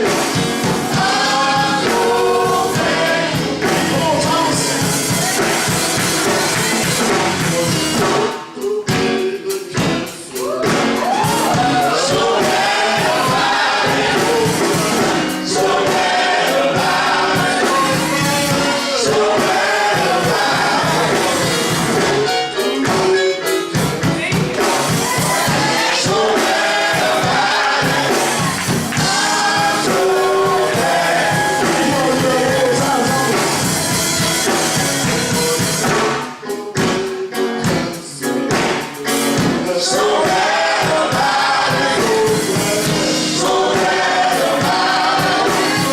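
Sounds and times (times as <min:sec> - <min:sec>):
gospel choir singing: 0:00.0 - 0:45.9.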